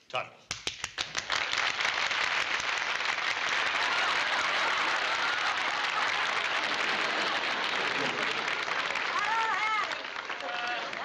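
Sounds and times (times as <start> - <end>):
audience applauding: 0.7 - 11.0.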